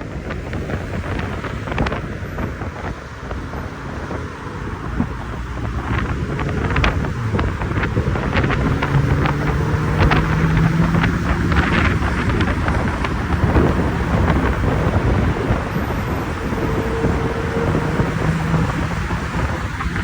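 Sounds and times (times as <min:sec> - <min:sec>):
sports car engine rumbling: 0:00.0 - 0:20.0
wind buffeting microphone: 0:00.0 - 0:20.0.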